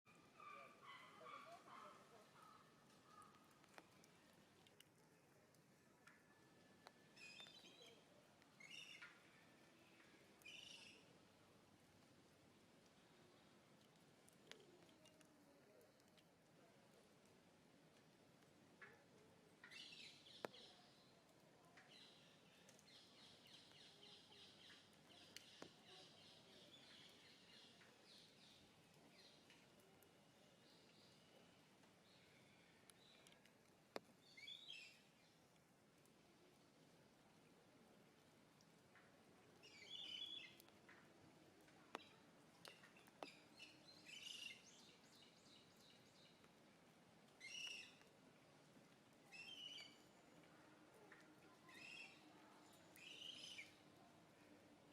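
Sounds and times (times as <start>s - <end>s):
faint birds chirping: 0.1s - 54.9s.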